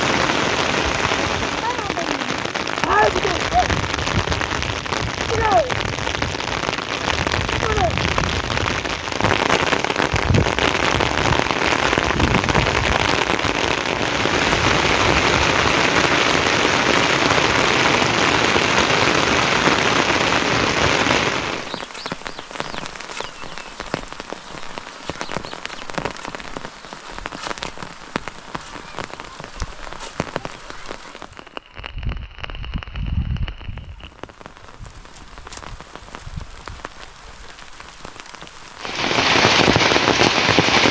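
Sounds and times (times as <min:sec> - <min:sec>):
heavy rain hiss: 0:00.0 - 0:40.9
raindrops pattering: 0:00.0 - 0:40.9.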